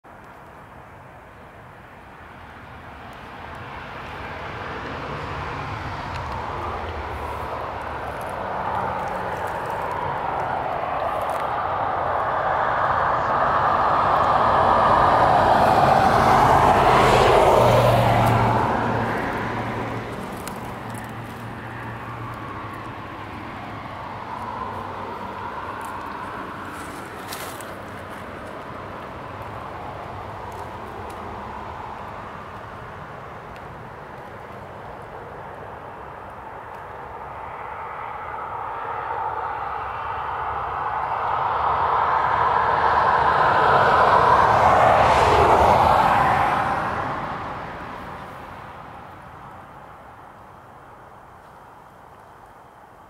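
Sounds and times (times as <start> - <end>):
motor vehicle passing by: 3.3 - 35.1, 35.7 - 49.2.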